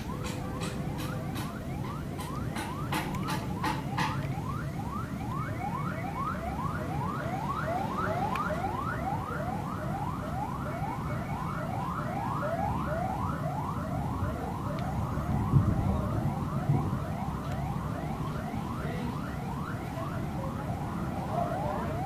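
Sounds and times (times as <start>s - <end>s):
alarm siren whooping: 0.0s - 22.0s.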